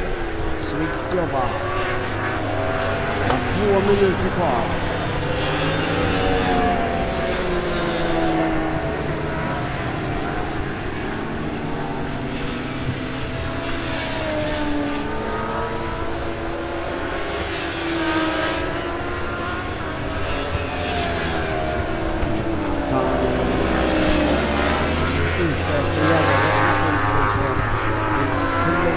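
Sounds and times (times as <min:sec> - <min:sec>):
racing motorcycles passing by: 0:00.0 - 0:28.9.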